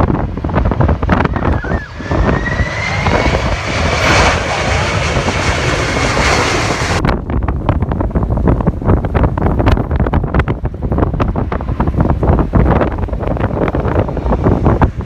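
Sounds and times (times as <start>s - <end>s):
jet engine whine: 0.0s - 9.7s, 10.3s - 15.0s
wind buffeting microphone: 0.0s - 15.0s.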